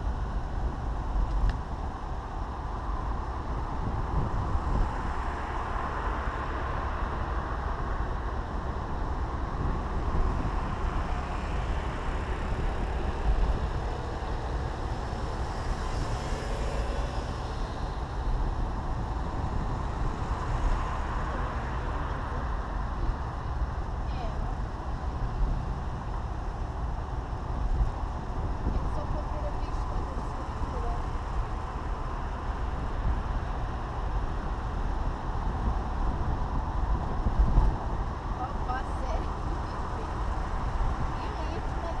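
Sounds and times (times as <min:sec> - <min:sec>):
car engine and road rumble: 0:00.0 - 0:42.0
traffic passing close: 0:00.0 - 0:42.0.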